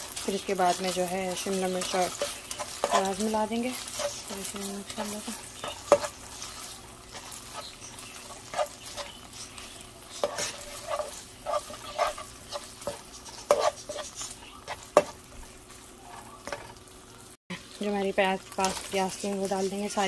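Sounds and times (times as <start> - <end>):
spatula scraping and tapping pan: 0.0 - 16.8
chicken sizzling in oil: 0.0 - 20.0.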